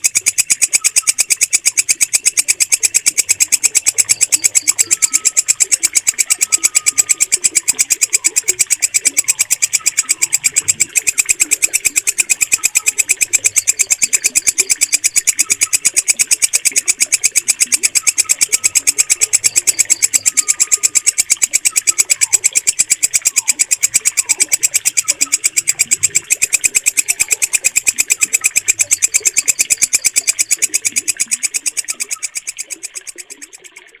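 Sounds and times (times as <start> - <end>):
katydid stridulating: 0.0 - 33.9.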